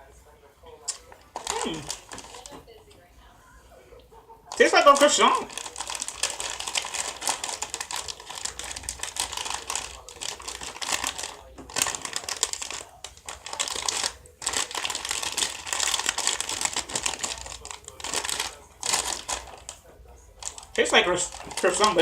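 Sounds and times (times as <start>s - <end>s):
plastic wrapper crinkling: 0.8s - 2.6s, 4.5s - 22.0s.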